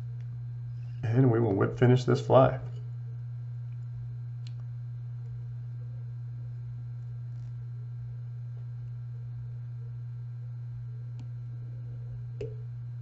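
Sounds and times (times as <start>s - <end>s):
steady low-pitched hum: 0.0s - 13.0s.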